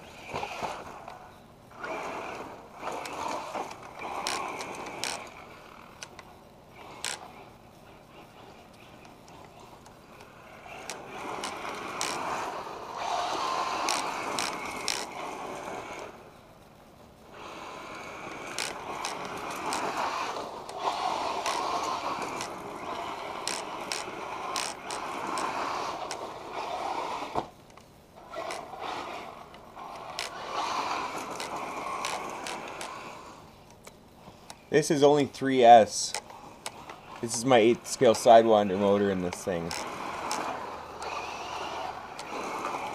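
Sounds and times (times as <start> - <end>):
rc car motor whine: 0.0 - 16.5, 17.3 - 33.8, 34.5 - 42.9.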